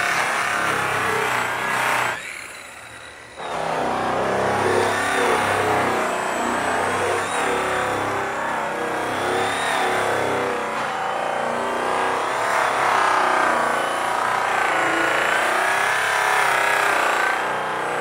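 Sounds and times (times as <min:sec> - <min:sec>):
rotary polisher motor whine: 0:00.0 - 0:18.0.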